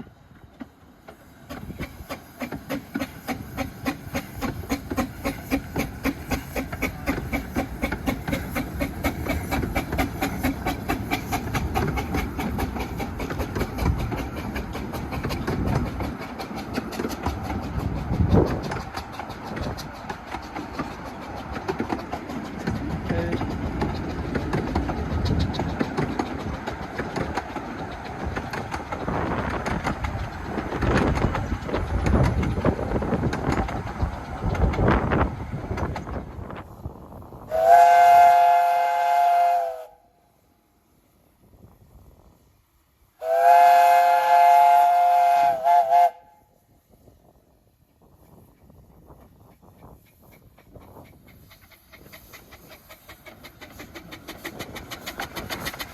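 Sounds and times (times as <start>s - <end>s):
wheels clattering on rails: 0.0s - 37.4s, 48.0s - 55.9s
steam locomotive exhaust chuffing: 0.2s - 55.9s.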